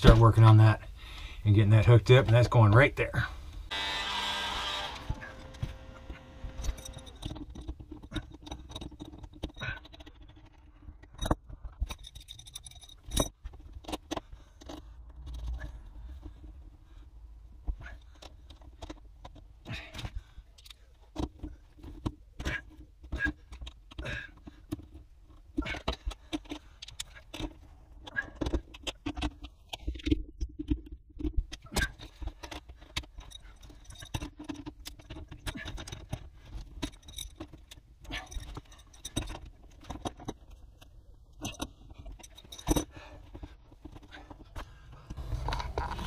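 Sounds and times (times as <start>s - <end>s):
cables and metal hardware clinking: 4.9s - 46.0s.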